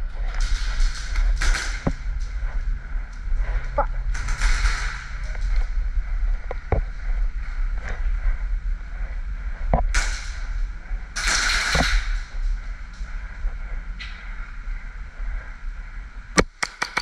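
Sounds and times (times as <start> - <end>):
low rumble: 0.0 - 16.4.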